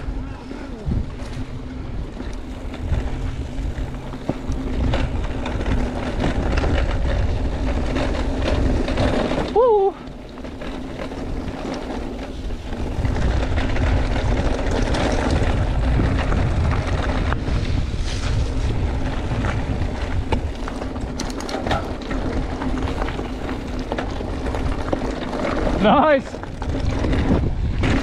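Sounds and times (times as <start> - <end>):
bike clicks and rattles: 0.0 - 28.0
steady rushing noise: 0.0 - 28.0
wind buffeting microphone: 0.0 - 28.0.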